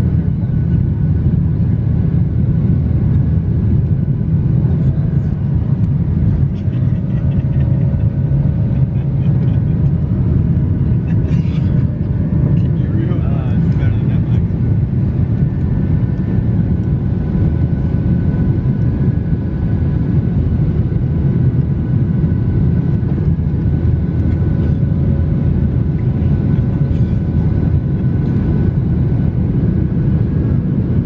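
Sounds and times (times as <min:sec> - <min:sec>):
airliner cabin drone: 0:00.0 - 0:31.0.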